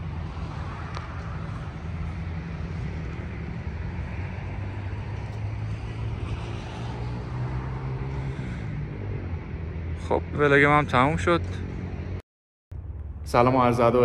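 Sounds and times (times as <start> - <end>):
droning engine hum: 0.0 - 14.0
traffic rumble: 0.0 - 14.0.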